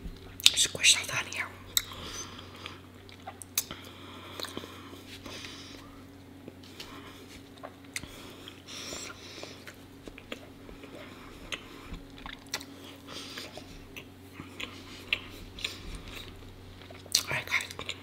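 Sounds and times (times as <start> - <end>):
chewing honeycomb: 0.1 - 18.0.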